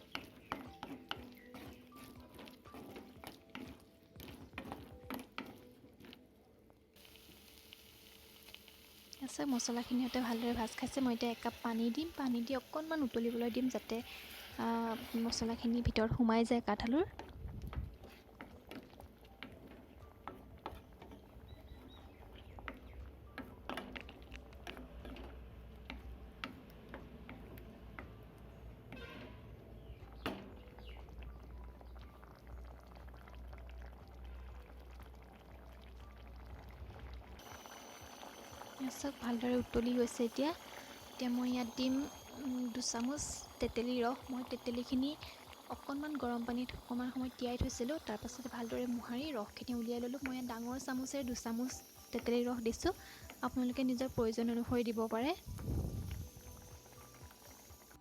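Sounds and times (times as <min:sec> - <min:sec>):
bubbles popping in simmering curry: 0:00.0 - 0:06.2, 0:06.9 - 0:58.0.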